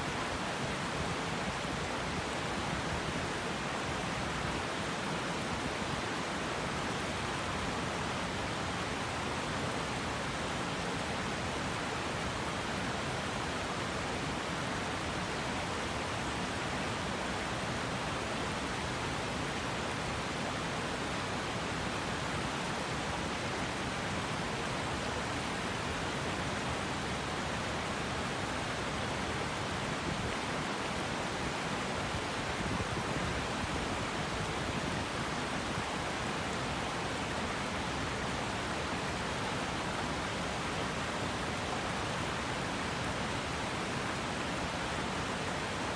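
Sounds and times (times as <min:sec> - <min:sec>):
river rushing over stones: 0:00.0 - 0:45.9.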